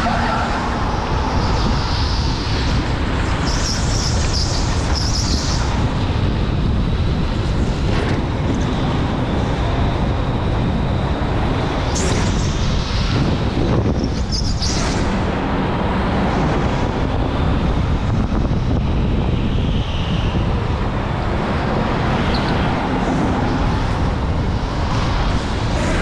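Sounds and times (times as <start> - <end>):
electric go-kart rumble: 0.0 - 26.0
wind noise on microphone: 0.0 - 26.0.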